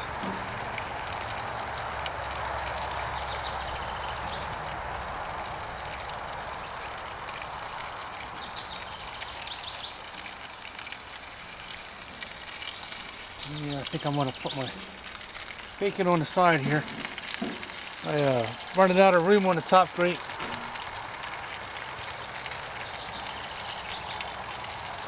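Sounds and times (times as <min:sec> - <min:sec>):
bacon sizzling in frying pan: 0:00.0 - 0:25.0
burgers frying on grill: 0:00.0 - 0:25.0.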